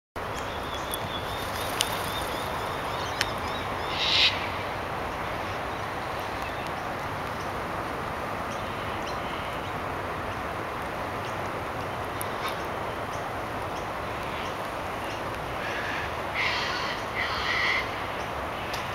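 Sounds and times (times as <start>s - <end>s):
outdoor hiss: 0.2s - 18.9s.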